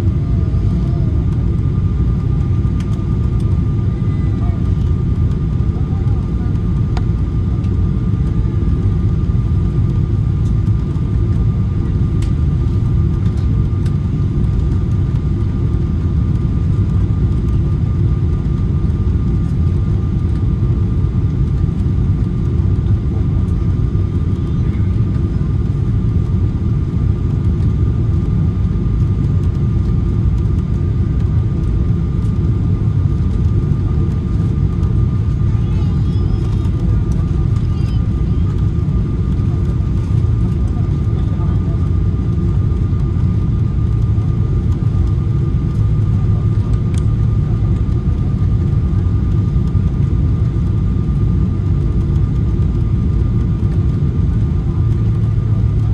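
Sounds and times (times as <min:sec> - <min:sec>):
aircraft cabin rumble: 0:00.0 - 0:55.9.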